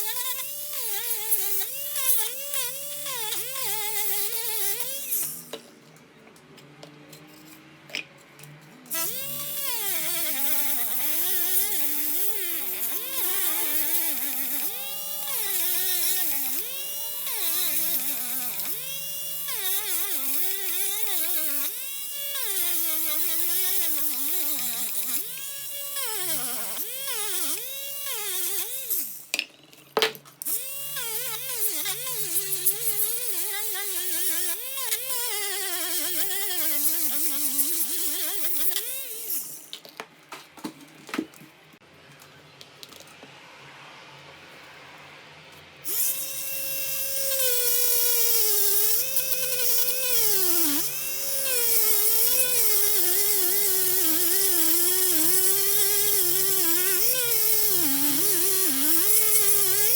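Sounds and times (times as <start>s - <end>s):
power tool whining: 0.0s - 6.0s, 6.6s - 40.0s, 45.8s - 59.9s.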